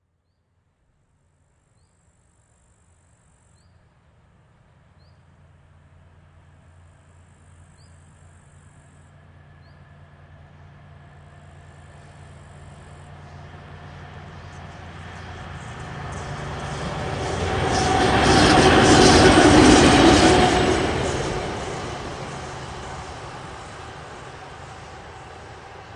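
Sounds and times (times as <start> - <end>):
train rumble: 4.8 - 25.9.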